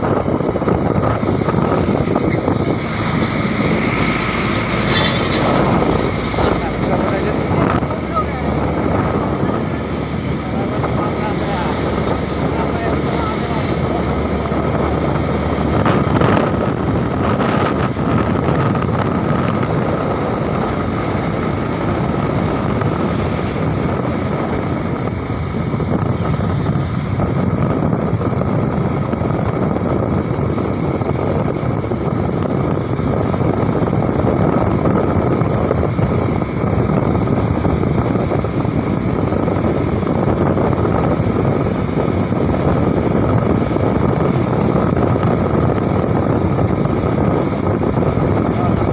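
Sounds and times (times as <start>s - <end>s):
road and wind noise: 0.0s - 48.9s
steady high whine: 0.0s - 48.9s
truck diesel engine running: 0.0s - 48.9s.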